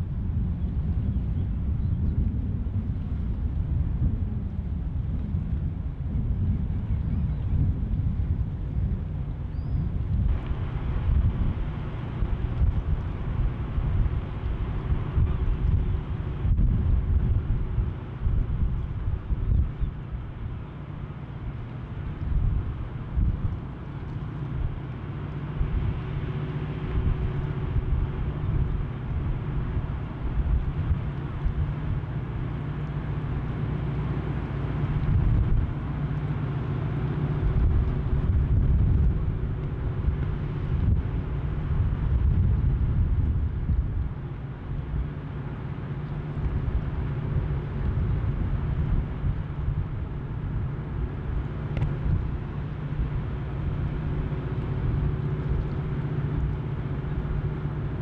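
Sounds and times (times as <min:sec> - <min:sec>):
ship engine drone: 0:00.0 - 0:58.0
wind on microphone: 0:00.0 - 0:58.0.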